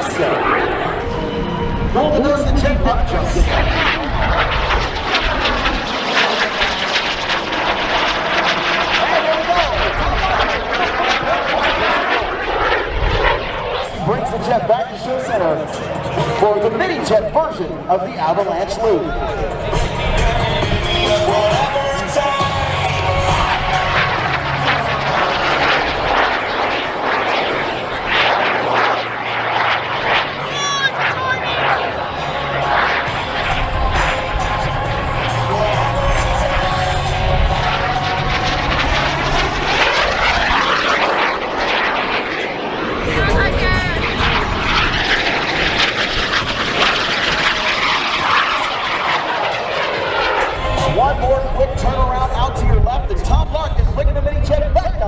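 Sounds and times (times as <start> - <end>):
jet engine rushing past: 0.0 - 55.0.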